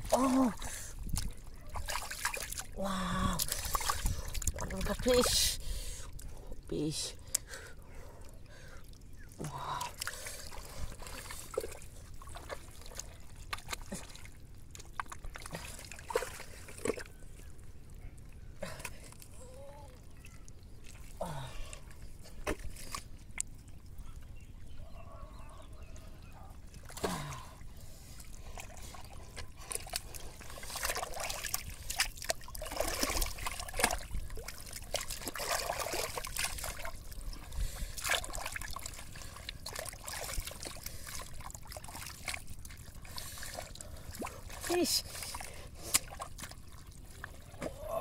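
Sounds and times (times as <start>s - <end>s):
hands squelching through wet mud: 0.0s - 5.4s, 8.5s - 24.8s, 26.4s - 48.0s
wet splashes: 0.0s - 5.4s, 8.5s - 24.2s, 26.7s - 48.0s.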